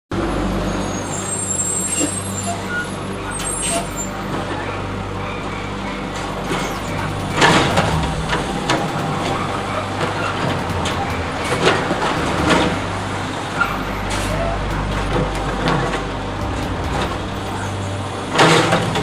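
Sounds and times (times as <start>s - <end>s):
garbage truck engine running: 0.2s - 19.0s.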